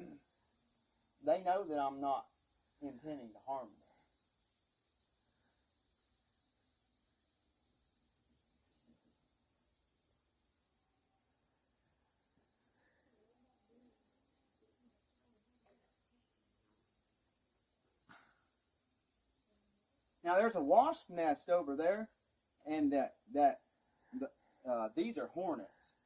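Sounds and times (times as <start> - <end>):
insects chorus pulsing: 0.0 - 26.0.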